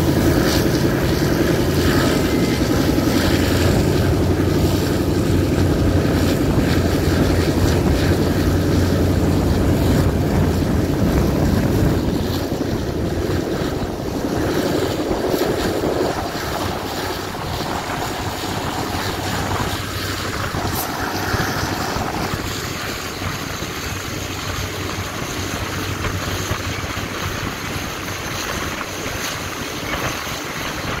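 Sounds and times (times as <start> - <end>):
low hum: 0.0 - 31.0
train rumbling: 0.0 - 31.0
wind buffeting microphone: 0.0 - 31.0.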